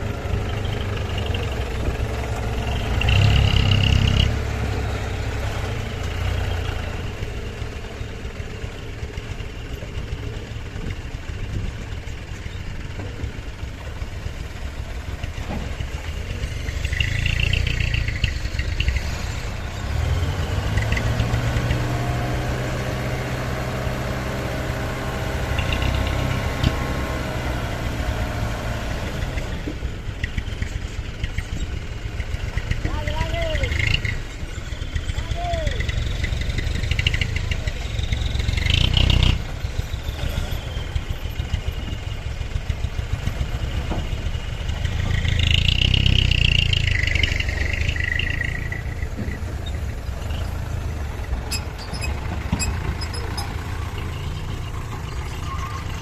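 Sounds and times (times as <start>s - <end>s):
dump truck diesel engine revving: 0.0s - 56.0s.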